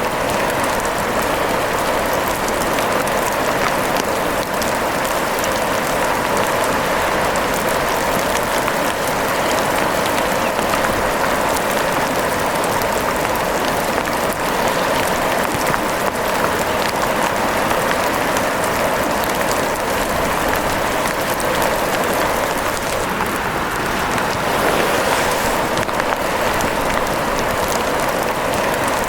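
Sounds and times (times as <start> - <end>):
steady rain patter: 0.0 - 29.0.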